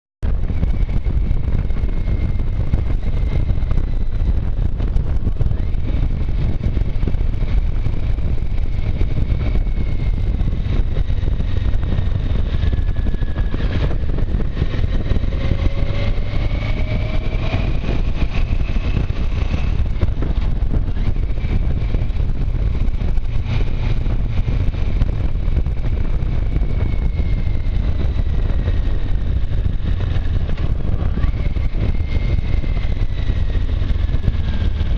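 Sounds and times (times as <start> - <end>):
motorcycle engine: 0.2 - 34.9
wind rush on microphone: 0.2 - 34.9.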